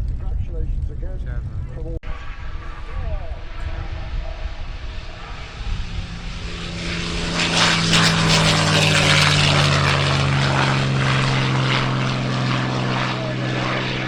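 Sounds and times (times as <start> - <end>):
propeller aircraft flying past: 1.6 - 14.0.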